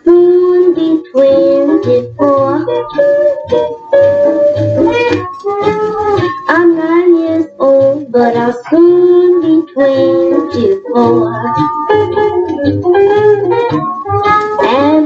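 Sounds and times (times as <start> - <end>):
jazzy pop song from a record: 0.0 - 15.0.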